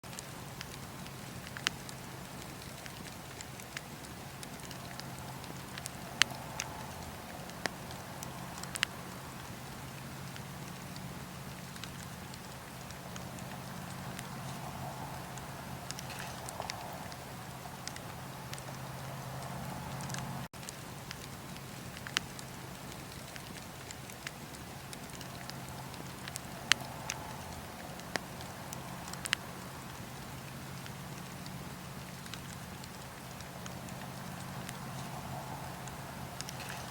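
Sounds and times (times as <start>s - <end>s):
fire crackles and pops: 0.0s - 36.9s
wood fire hissing: 0.1s - 36.9s.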